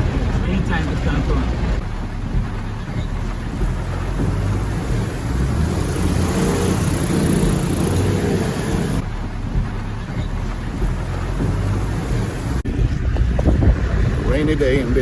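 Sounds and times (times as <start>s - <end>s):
wind rushing over microphone: 0.0s - 9.7s, 10.8s - 15.0s
vehicle engine running: 0.0s - 15.0s.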